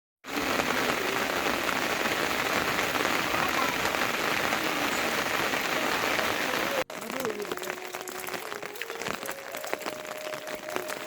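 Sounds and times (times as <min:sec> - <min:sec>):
rain falling: 0:00.2 - 0:11.0.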